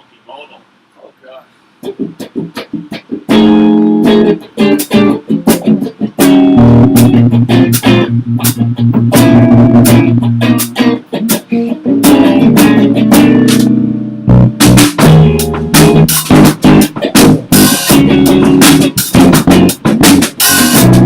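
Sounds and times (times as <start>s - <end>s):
bass guitar: 1.8s - 21.0s
drum hits: 1.8s - 21.0s
electric guitar chords: 1.8s - 21.0s.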